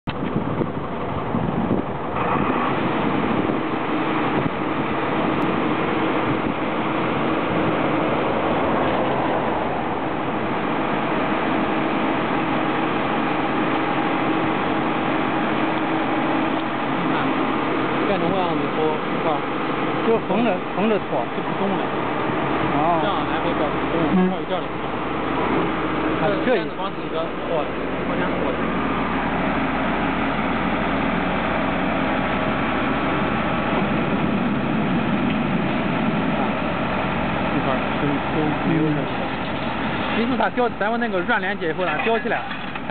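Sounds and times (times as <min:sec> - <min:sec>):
machine engine drone: 0:00.1 - 0:42.9.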